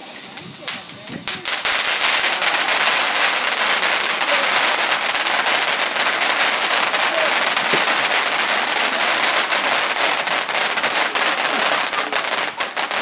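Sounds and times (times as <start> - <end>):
rapid-fire firework cracking: 0.0 - 13.0.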